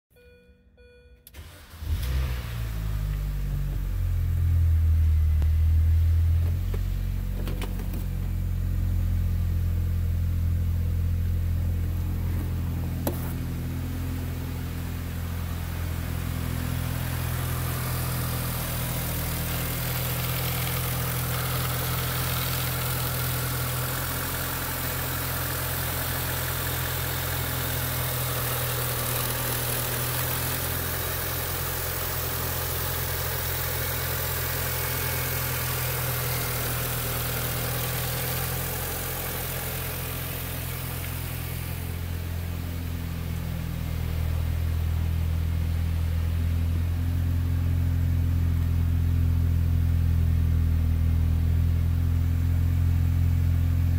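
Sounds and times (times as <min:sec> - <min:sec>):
car engine starting and idling: 0:00.2 - 0:53.9.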